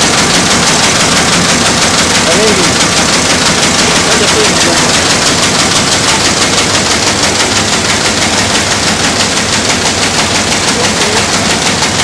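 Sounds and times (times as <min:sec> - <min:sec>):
envelope machine clattering: 0:00.0 - 0:12.0.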